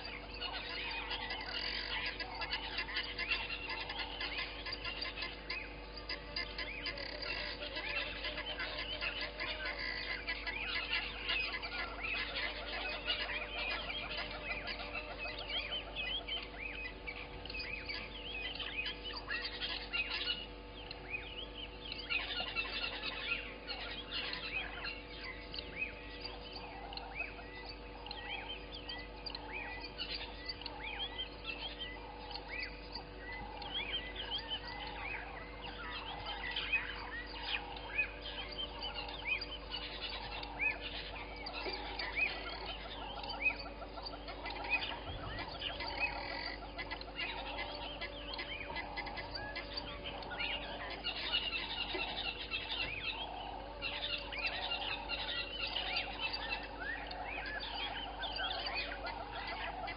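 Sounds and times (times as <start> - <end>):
faint hum: 0.0 - 59.9
wild birds chirping: 0.0 - 59.9.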